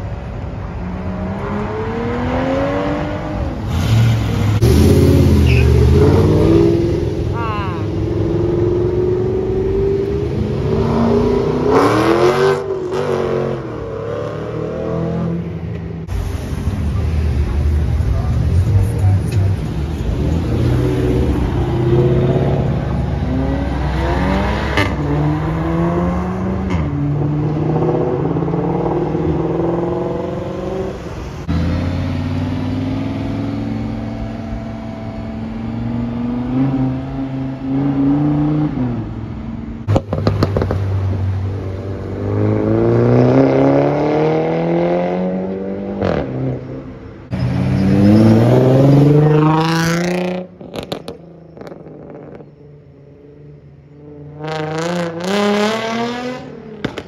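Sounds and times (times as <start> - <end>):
sports car engines accelerating: 0.0 - 57.0.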